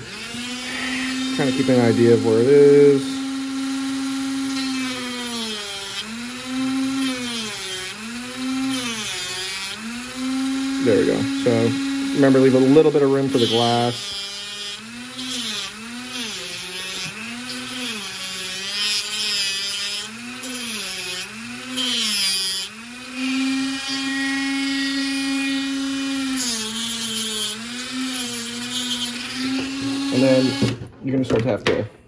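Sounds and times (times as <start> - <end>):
rotary tool cutting plastic: 0.0 - 30.8.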